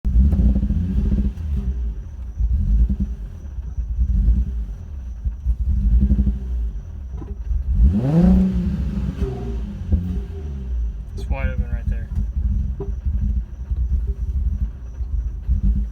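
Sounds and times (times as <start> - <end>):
car engine misfiring: 0.0 - 15.9.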